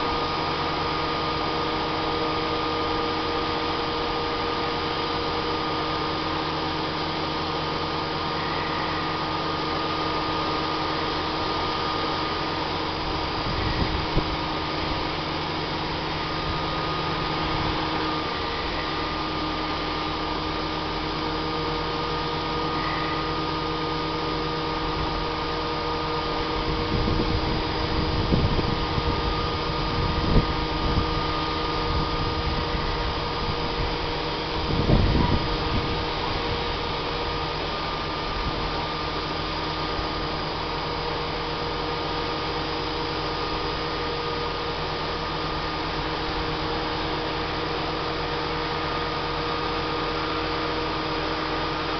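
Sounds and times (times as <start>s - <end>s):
hydraulic whining tones: 0.0s - 51.9s
truck engine and crane hum: 0.0s - 51.9s.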